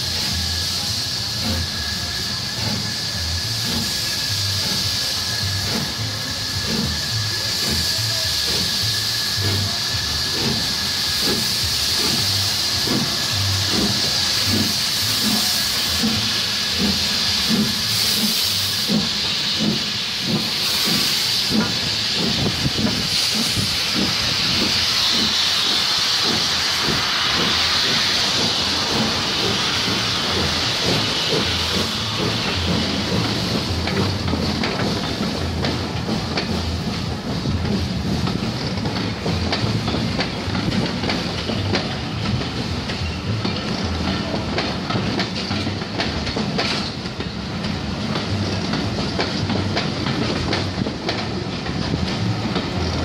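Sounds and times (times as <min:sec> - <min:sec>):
steam hissing: 0:00.0 - 0:53.0
steam locomotive exhaust beats: 0:00.0 - 0:53.0.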